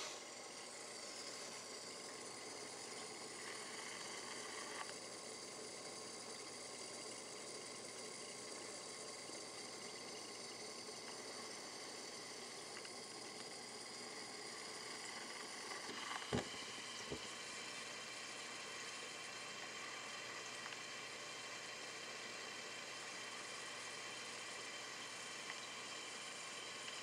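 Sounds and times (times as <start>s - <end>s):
aquarium pump hum: 0.0s - 27.0s.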